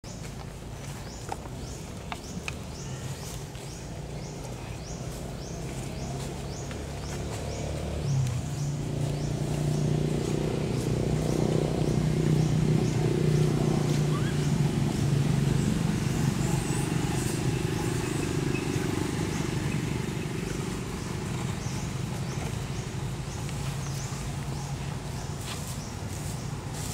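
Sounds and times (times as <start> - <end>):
low engine drone: 4.0 - 26.9.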